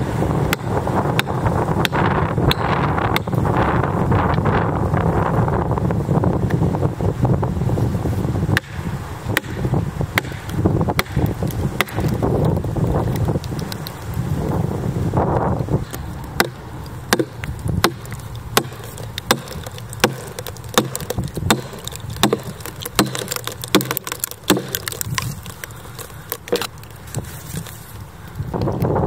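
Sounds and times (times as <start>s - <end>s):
log splitting with woody cracks: 0.0s - 5.4s, 7.8s - 29.0s.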